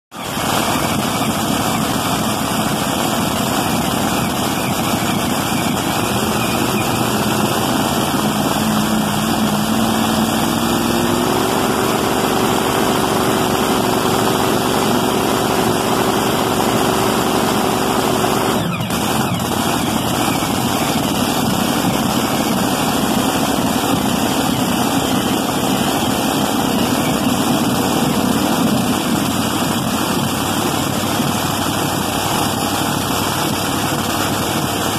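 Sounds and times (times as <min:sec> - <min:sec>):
engine running: 0:00.1 - 0:34.9
supercharger whine: 0:00.1 - 0:34.9.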